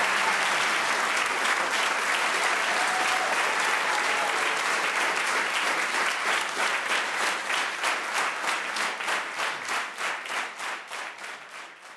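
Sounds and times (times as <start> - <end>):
audience applauding: 0.0 - 11.9
rhythmic clapping in unison: 0.0 - 11.9.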